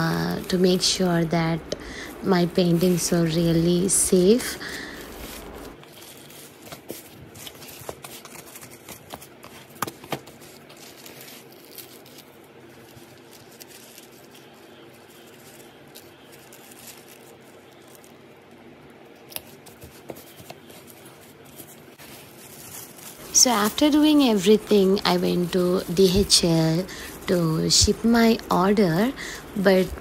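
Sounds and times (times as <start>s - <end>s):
plastic bag crinkling: 0.0s - 30.0s.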